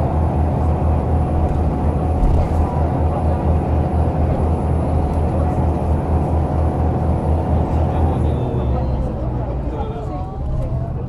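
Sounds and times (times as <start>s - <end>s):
bus engine throbbing: 0.0s - 11.0s.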